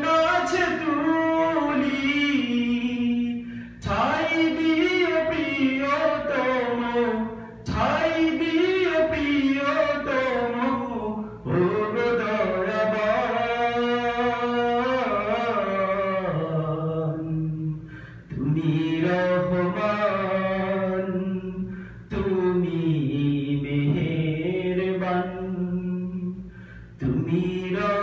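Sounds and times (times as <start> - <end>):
man singing unaccompanied: 0.0 - 28.0.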